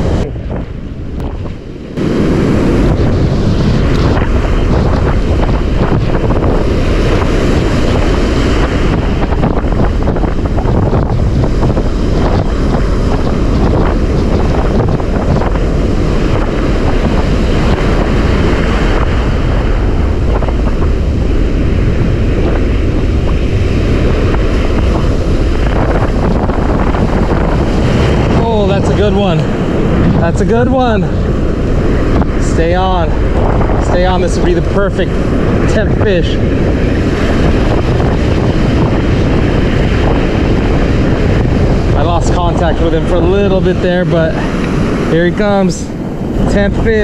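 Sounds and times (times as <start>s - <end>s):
breaking surf: 0.0s - 47.0s
wind buffeting microphone: 0.0s - 47.0s.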